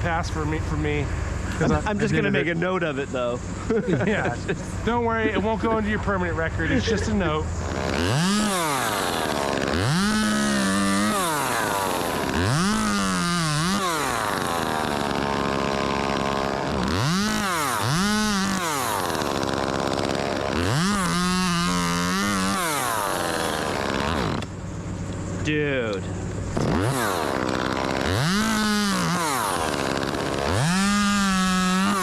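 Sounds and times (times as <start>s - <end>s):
chainsaw revving and idling: 0.9s - 32.0s.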